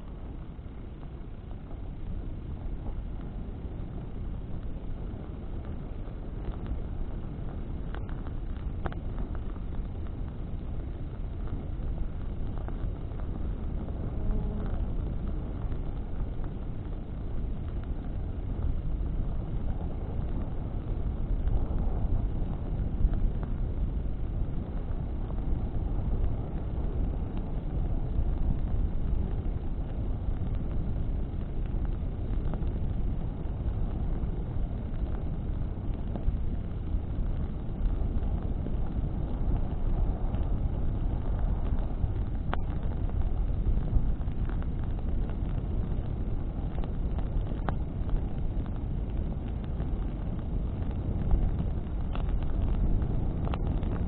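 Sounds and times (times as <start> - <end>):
burning wood crackling: 0.0 - 54.0
fire and wind rumble: 0.0 - 54.0.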